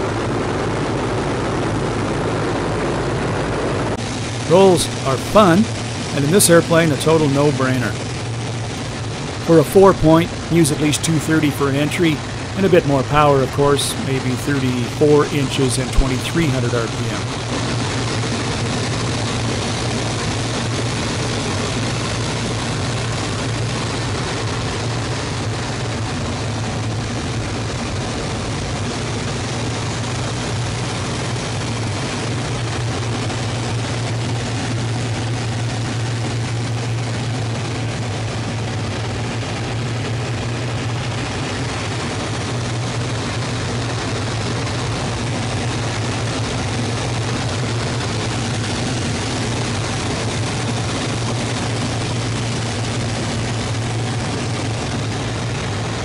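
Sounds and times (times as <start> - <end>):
aircraft engine droning: 0.0 - 56.0
rushing airflow: 0.0 - 56.0.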